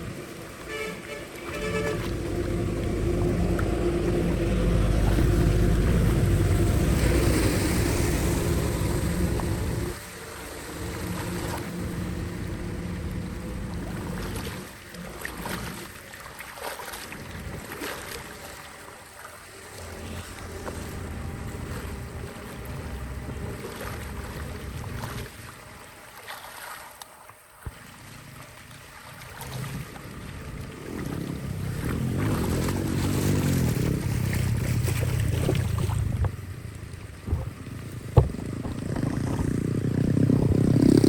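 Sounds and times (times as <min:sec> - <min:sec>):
running water: 0:00.0 - 0:41.0.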